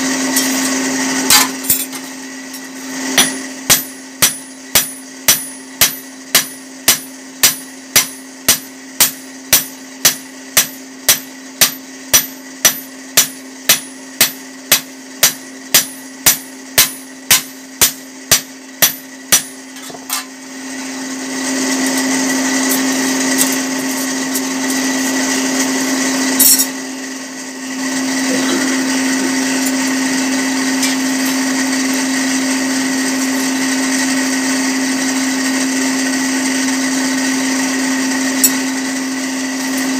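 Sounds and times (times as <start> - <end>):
furnace blower hum: 0.0 - 39.9
machine whir: 0.0 - 39.9.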